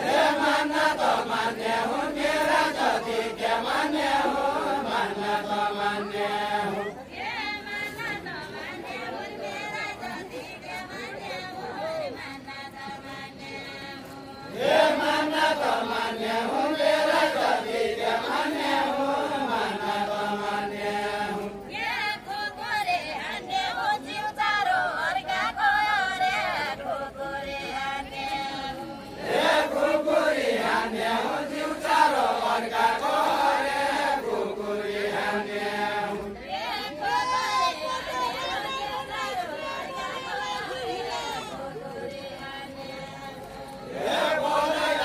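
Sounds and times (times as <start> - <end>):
group singing folk song: 0.0 - 45.0.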